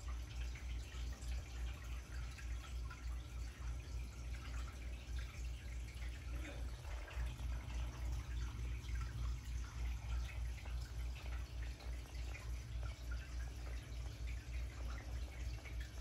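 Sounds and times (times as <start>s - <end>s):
low filter hum: 0.0s - 16.0s
water trickling and dripping: 0.0s - 16.0s.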